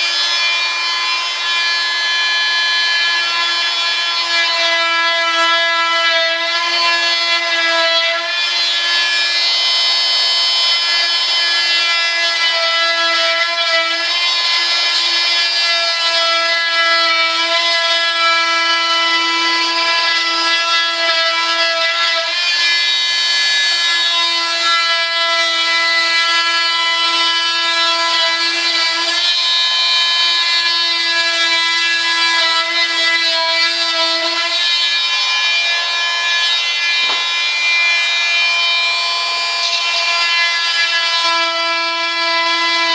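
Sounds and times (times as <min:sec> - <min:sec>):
vibrating saw buzzing: 0:00.0 - 0:42.9.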